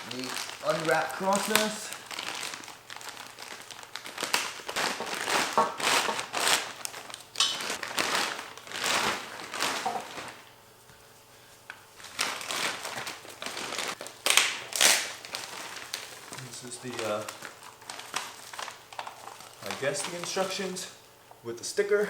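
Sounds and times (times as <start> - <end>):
packing wrap crinkling: 0.0 - 10.6, 11.7 - 20.9.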